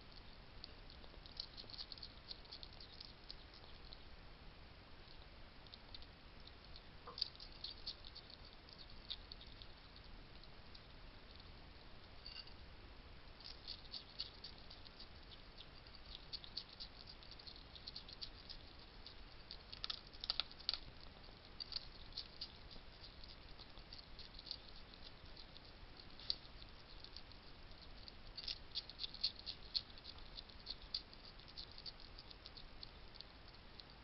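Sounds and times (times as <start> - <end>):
hedgehogs crunching dry food: 0.1 - 4.1, 5.0 - 11.5, 13.3 - 34.0.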